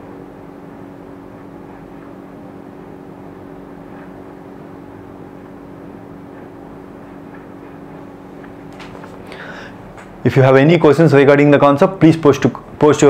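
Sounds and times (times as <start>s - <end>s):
ventilation drone with hiss: 0.0s - 13.0s.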